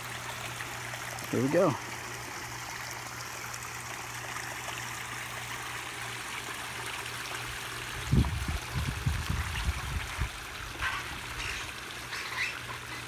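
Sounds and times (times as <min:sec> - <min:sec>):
water running over rocks: 0:00.0 - 0:13.0.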